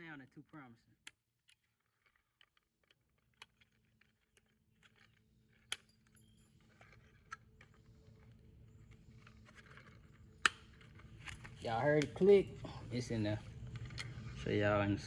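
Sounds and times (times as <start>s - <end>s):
small parts clicking and rattling: 1.1s - 14.4s.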